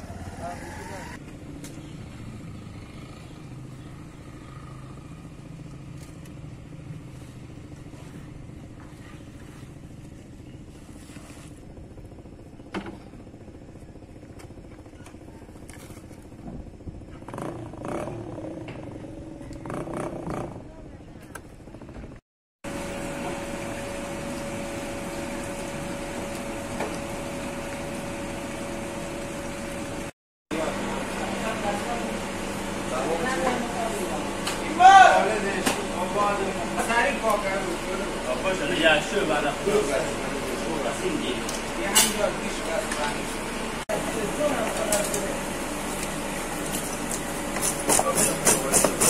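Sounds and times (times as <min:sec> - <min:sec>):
mechanical hum with whine: 0:00.0 - 0:49.0.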